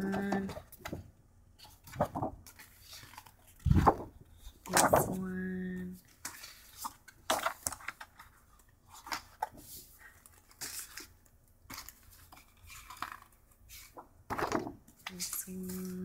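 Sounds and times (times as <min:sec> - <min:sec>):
paper sheets rustling: 0:01.6 - 0:05.4, 0:06.1 - 0:16.0.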